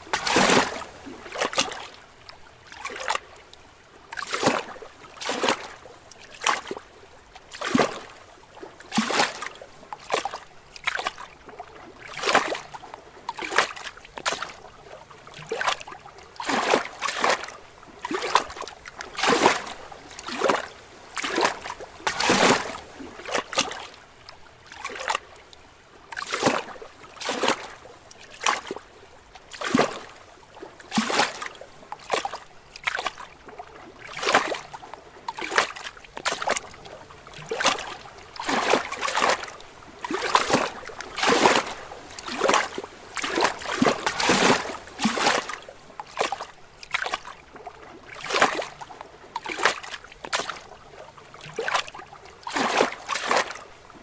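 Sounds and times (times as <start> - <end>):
waves lapping against rocks: 0.0 - 54.0.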